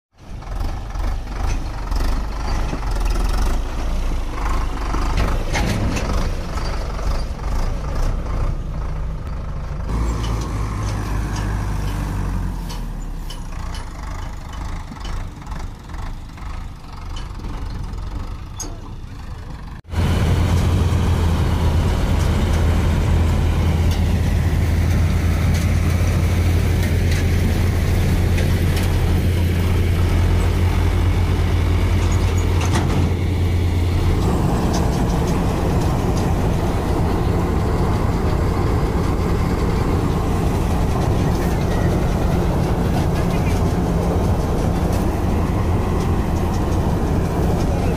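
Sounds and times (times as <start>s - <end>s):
tractor diesel engine running: 0.1s - 47.9s.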